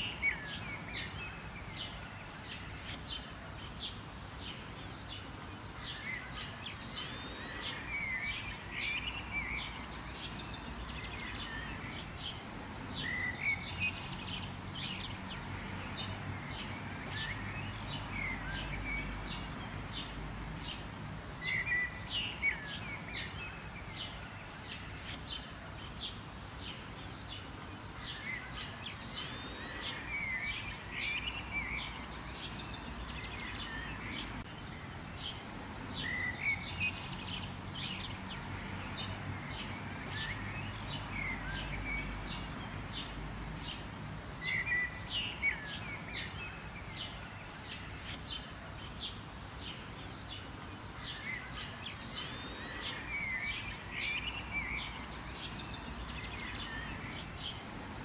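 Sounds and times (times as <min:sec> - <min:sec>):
background hiss: 0:00.0 - 0:58.0
birds chirping and warbling: 0:00.0 - 0:58.0.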